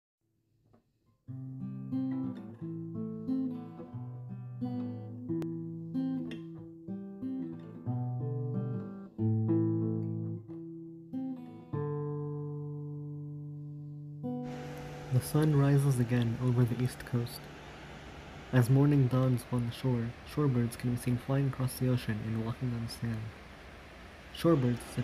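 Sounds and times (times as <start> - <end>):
acoustic guitar playing: 0.6 - 25.0.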